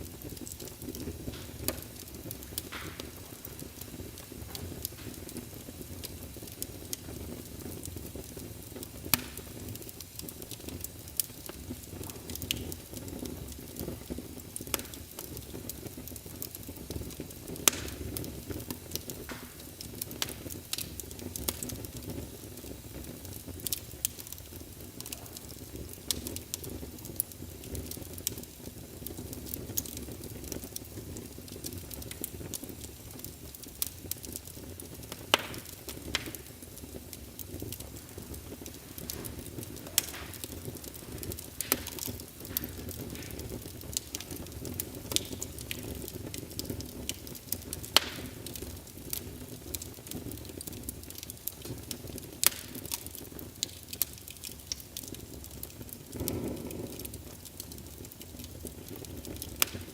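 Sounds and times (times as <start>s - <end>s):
sharp pops from fire: 0.0s - 59.9s
wood fire crackling: 0.0s - 59.9s.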